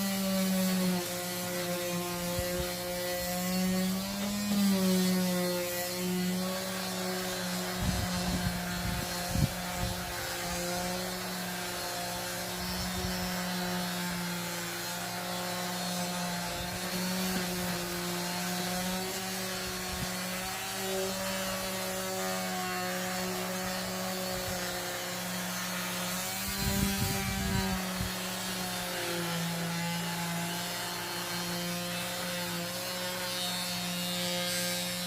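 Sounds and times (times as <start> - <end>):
electric sander motor hum: 0.0 - 35.0
sandpaper rubbing wood: 0.0 - 35.0.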